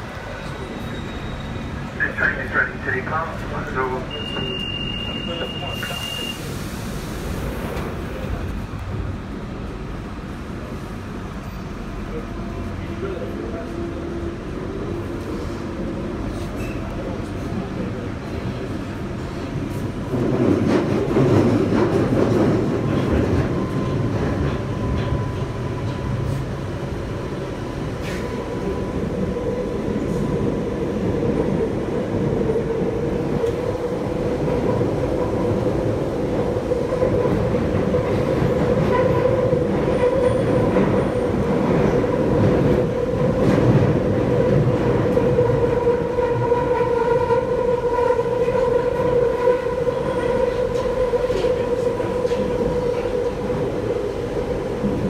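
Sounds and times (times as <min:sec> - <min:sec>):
train wheels rumbling in tunnel: 0:00.0 - 0:55.0.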